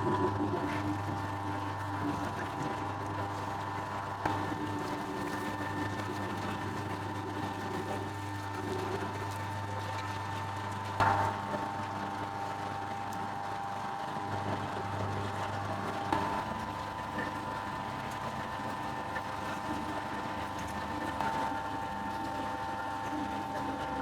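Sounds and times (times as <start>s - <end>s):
dough mixer humming and whining: 0.0s - 24.0s.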